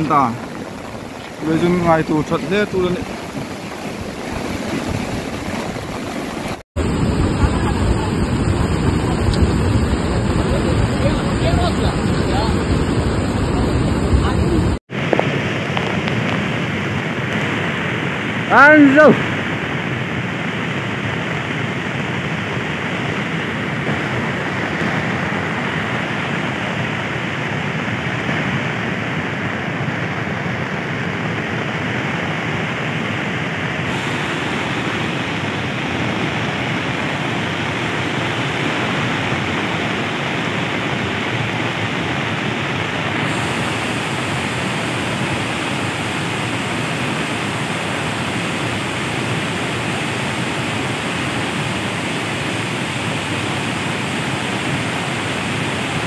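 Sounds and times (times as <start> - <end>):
river water rushing over concrete: 0.0 - 56.0.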